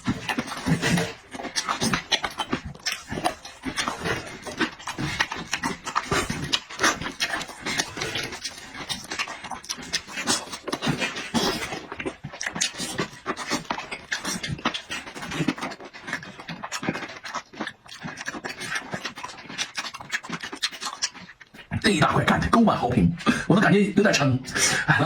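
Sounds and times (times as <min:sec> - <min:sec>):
man chewing and lip-smacking: 0:00.0 - 0:25.0.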